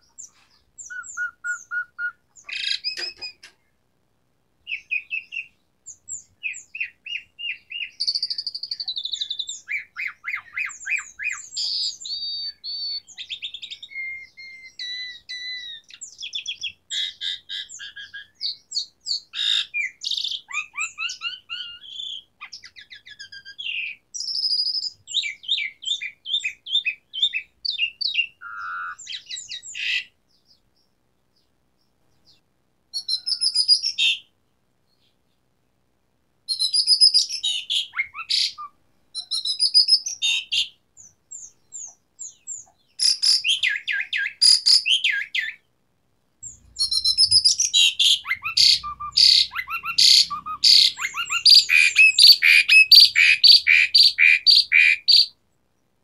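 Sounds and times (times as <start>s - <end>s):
starling singing: 0.0s - 3.6s, 4.7s - 30.7s, 33.0s - 34.3s, 36.5s - 45.7s, 46.4s - 55.4s.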